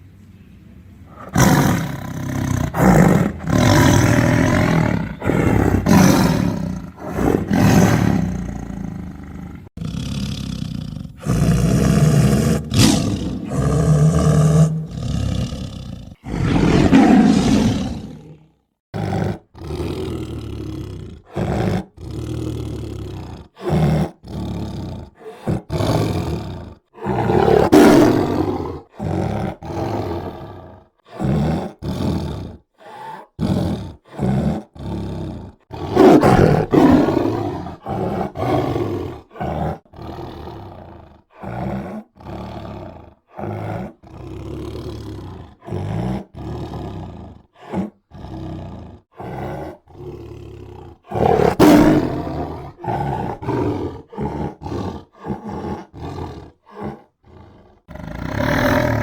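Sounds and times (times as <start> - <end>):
tiger roaring: 1.1 - 59.0.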